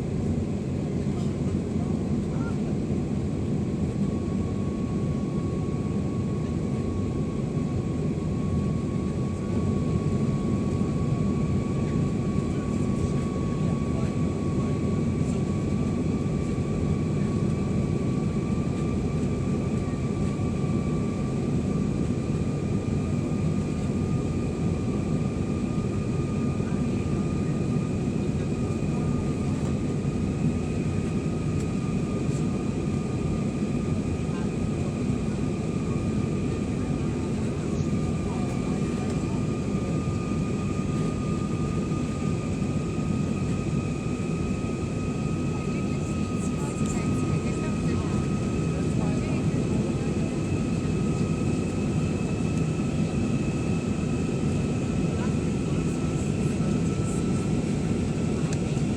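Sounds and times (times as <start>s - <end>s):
jet engine rush in cabin: 0.0s - 58.9s.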